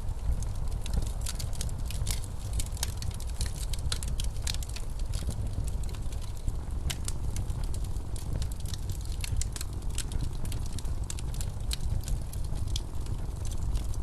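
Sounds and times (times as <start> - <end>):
blizzard wind rumbling: 0.0 - 14.0
wood fire crackling: 0.0 - 14.0.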